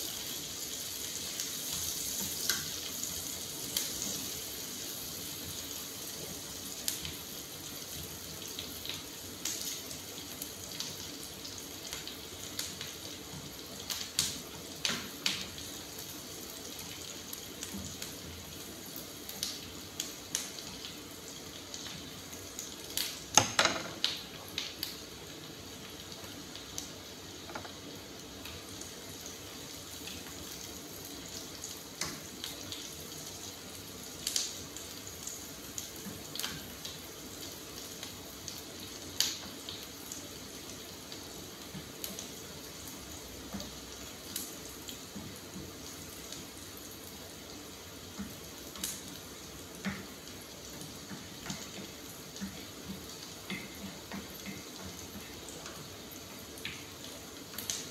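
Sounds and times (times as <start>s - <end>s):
food sizzling in a frying pan: 0.0s - 57.9s.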